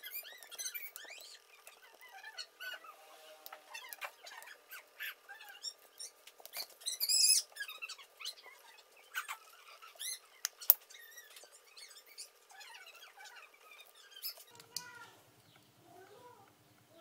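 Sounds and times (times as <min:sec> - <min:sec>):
high-pitched animal chirps and squeaks: 0:00.0 - 0:03.0, 0:03.7 - 0:15.1.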